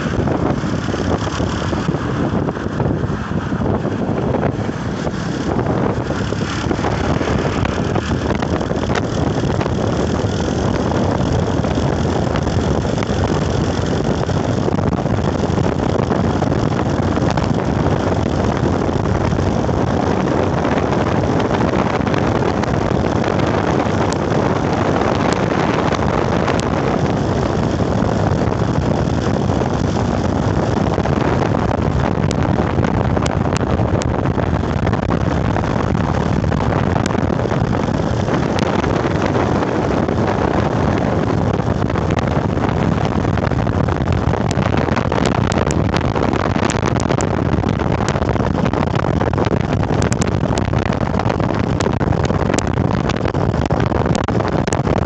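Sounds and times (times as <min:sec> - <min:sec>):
loud vehicle noise: 0:00.0 - 0:55.0
wind on microphone: 0:00.0 - 0:55.0.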